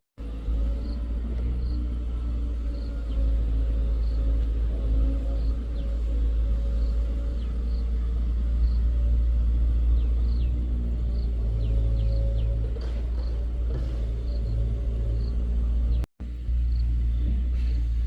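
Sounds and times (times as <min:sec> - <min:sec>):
diesel engine rumbling: 0:00.2 - 0:18.0.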